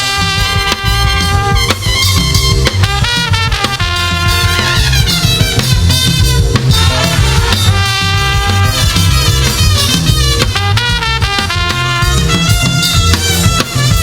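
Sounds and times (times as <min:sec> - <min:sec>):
drum kit: 0:00.0 - 0:14.0
gospel band playing: 0:00.0 - 0:14.0
heavy bass: 0:00.0 - 0:14.0.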